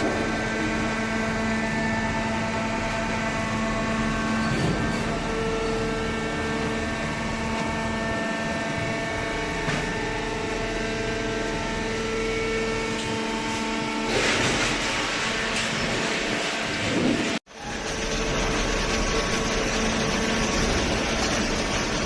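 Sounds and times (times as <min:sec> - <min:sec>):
machinery humming: 0:00.0 - 0:22.0.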